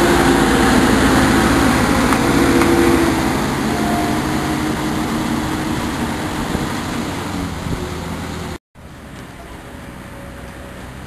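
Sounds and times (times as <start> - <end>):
locomotive engine humming: 0.0 - 11.0
open-air background noise: 0.0 - 11.0.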